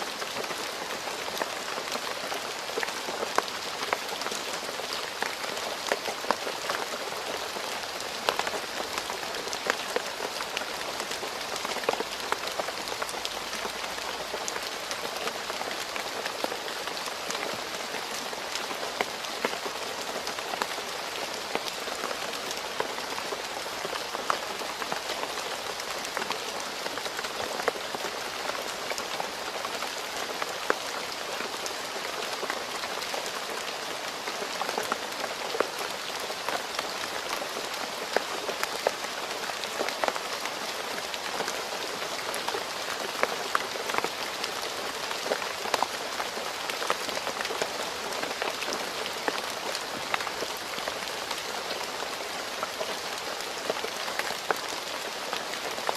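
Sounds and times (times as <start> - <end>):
rain falling on a road: 0.0 - 55.9.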